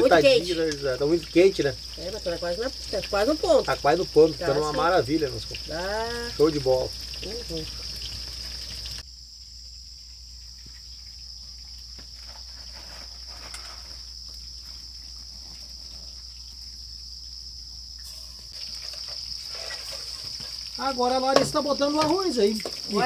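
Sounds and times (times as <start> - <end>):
crickets chirping chorus: 0.0 - 23.0.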